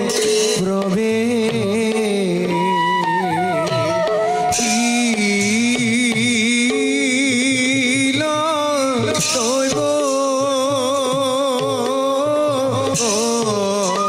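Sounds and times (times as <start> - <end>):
hand drum strokes: 0.0 - 14.0.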